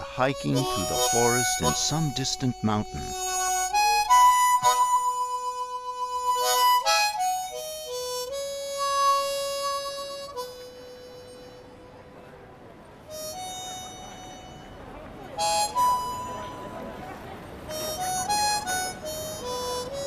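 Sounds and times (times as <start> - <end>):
slow wind instrument melody: 0.0 - 20.0.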